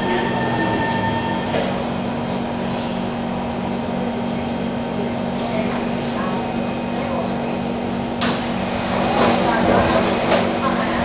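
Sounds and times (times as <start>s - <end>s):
train interior hum: 0.0s - 11.0s.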